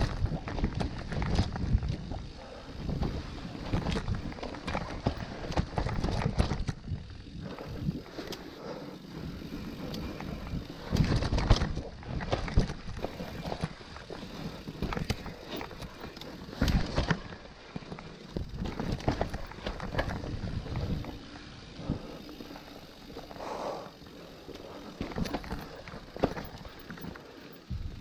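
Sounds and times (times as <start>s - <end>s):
bike clattering over bumps: 0.0s - 8.3s, 9.5s - 23.5s, 24.3s - 28.0s
bike tyres rolling on dirt: 0.0s - 28.0s.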